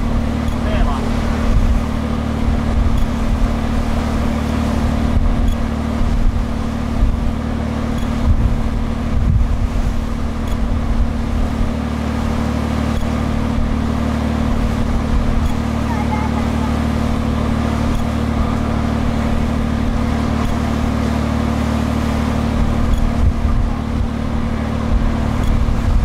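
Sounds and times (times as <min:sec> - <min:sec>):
ferry engine drone: 0:00.0 - 0:26.0.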